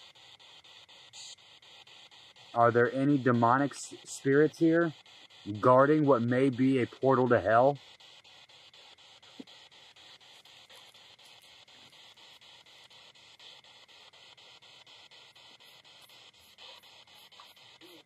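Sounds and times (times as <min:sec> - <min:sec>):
radio static chopped by cuts: 0:00.0 - 0:18.0.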